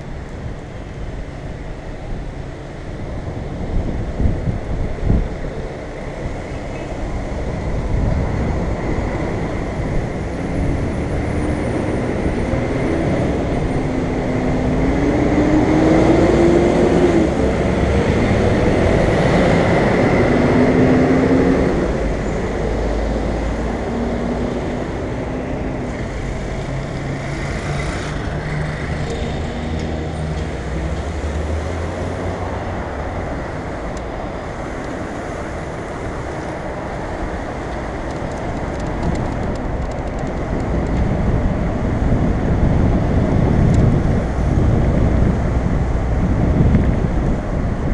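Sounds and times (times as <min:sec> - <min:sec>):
bus engine running: 0:00.0 - 0:47.9
tyre and road noise: 0:00.0 - 0:47.9.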